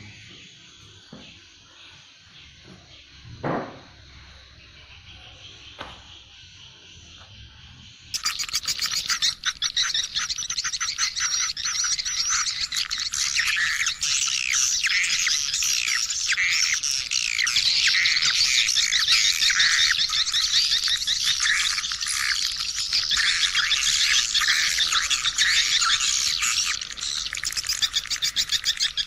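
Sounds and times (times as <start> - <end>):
swiftlets chirping and twittering: 0.0 - 29.0.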